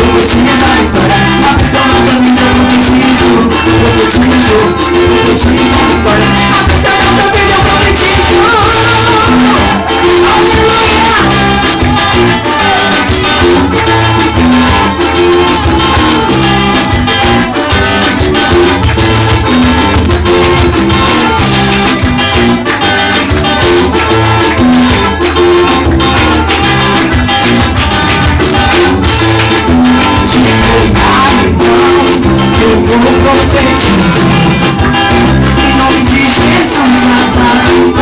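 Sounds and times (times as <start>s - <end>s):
band playing latin dance rhythm: 0.0s - 38.0s.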